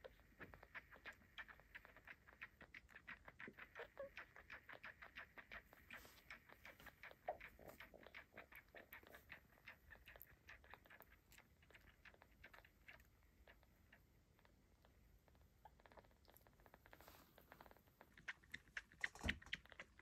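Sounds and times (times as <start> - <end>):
kitten suckling wet clicks: 0.0 - 20.0.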